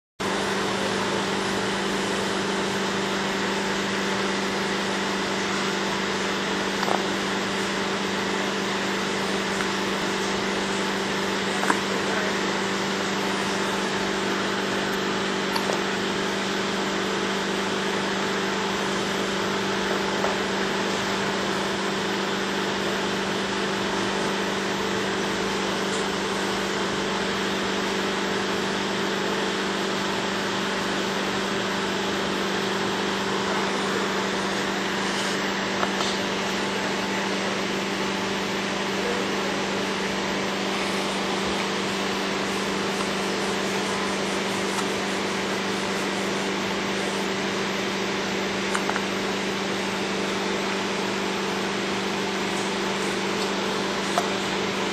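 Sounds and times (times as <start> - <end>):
electrical hum and hiss: 0.2 - 54.9.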